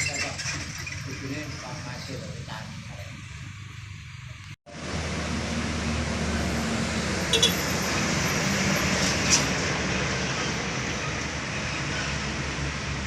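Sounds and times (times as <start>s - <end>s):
heavy truck engine under load: 0.0s - 13.0s
road noise: 0.0s - 13.0s.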